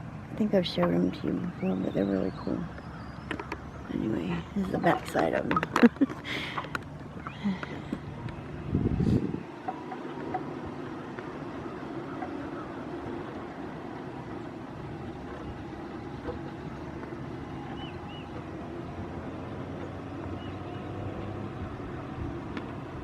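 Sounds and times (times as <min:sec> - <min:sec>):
power wheelchair motors running: 0:00.0 - 0:23.0.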